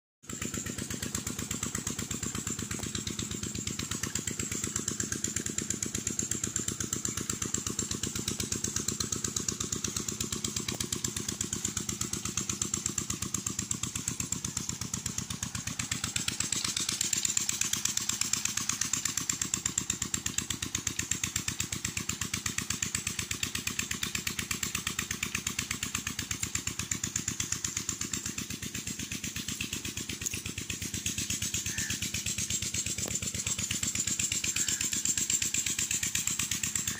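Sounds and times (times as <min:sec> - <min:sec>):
engine running steadily: 0:00.2 - 0:36.9.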